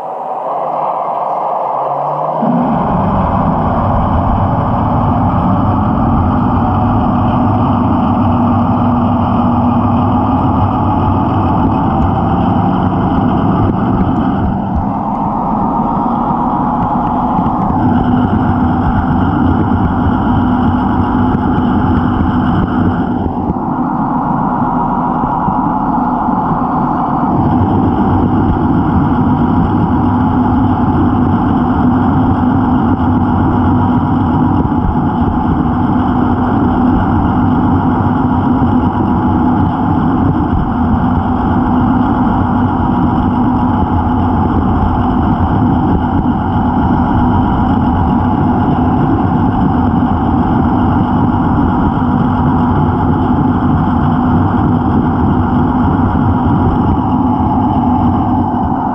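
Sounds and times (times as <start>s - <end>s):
model locomotive running hum: 0.0s - 58.9s.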